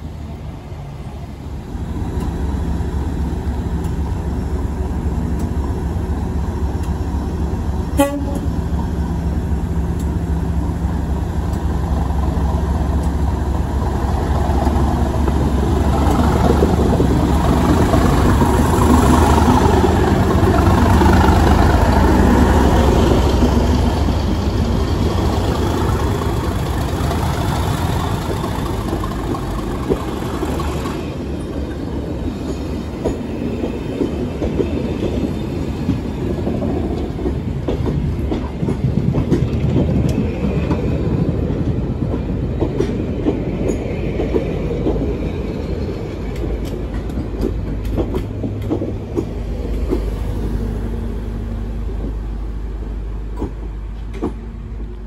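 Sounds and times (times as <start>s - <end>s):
diesel locomotive engine running: 0.0s - 55.0s
train coaches rumbling: 0.0s - 55.0s.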